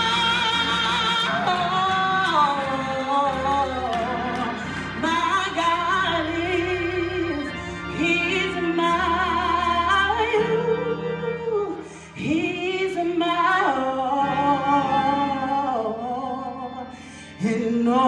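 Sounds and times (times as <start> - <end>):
woman singing gospel solo: 0.0 - 16.8
instrumental accompaniment: 0.0 - 18.0.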